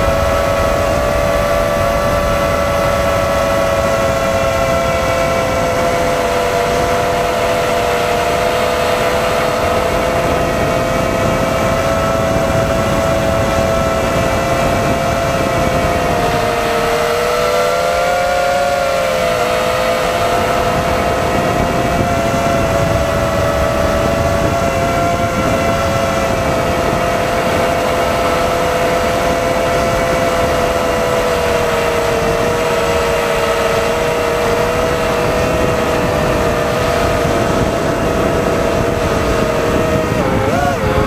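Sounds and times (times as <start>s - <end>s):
drone motors whining: 0.0s - 41.0s
rushing wind noise: 0.0s - 41.0s.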